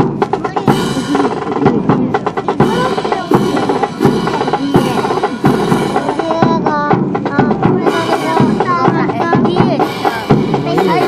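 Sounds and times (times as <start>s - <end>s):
snare and bass drums: 0.0s - 11.0s.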